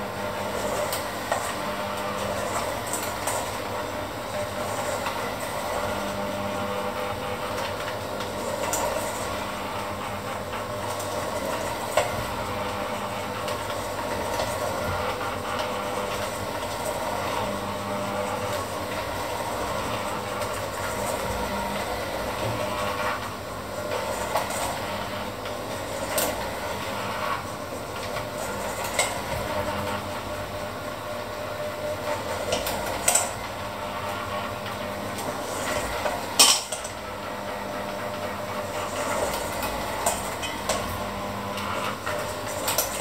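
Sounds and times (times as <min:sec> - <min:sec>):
electric hand mixer whisking: 0:00.0 - 0:43.0.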